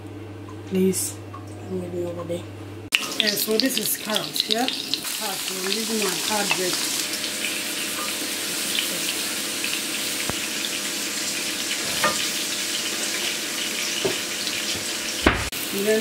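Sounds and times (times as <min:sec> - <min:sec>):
carrots sizzling in hot oil: 0:02.9 - 0:16.0.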